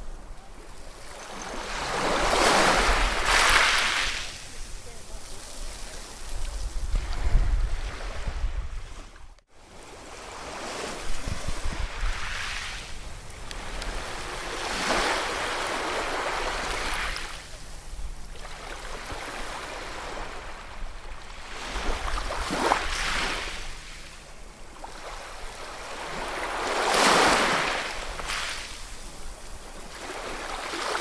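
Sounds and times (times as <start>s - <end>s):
ocean waves breaking on shore: 0.0s - 31.0s.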